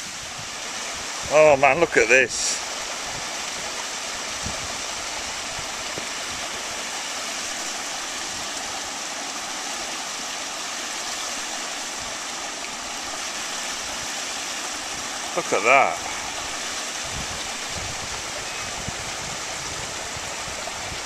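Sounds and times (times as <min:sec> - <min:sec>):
running water hiss: 0:00.0 - 0:21.0.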